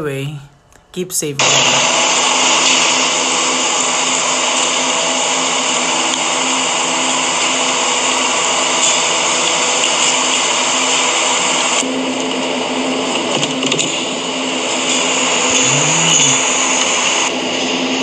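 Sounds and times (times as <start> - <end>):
mechanical drone with whining hum: 0.5 - 18.0.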